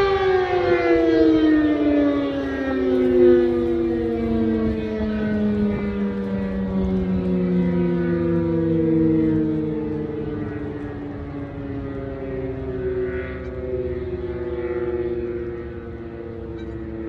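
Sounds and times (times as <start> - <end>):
siren two-note chord sliding down: 0.0 - 17.0.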